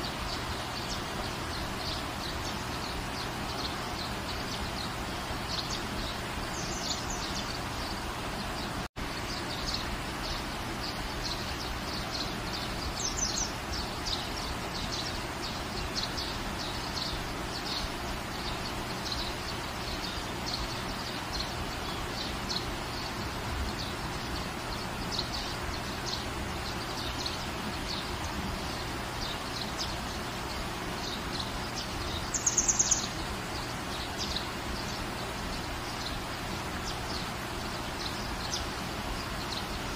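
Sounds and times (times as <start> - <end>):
bird chirping: 0.0 - 39.9
steady rain: 0.0 - 39.9.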